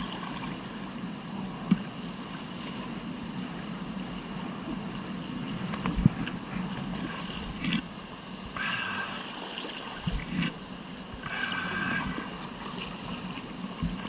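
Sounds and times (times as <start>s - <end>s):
rushing river whitewater: 0.0s - 14.0s.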